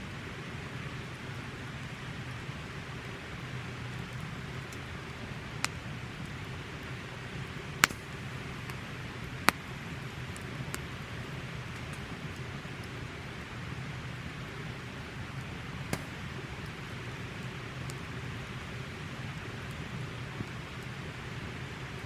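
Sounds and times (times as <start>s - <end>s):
campfire hissing: 0.0s - 22.0s
fire popping and crackling: 1.0s - 22.0s.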